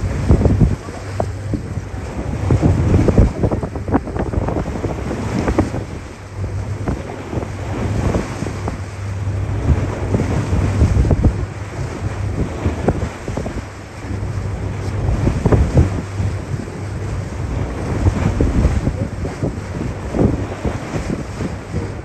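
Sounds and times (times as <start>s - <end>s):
low engine drone: 0.0s - 20.6s
water splashing: 0.0s - 22.0s
wind buffeting microphone: 0.0s - 22.0s.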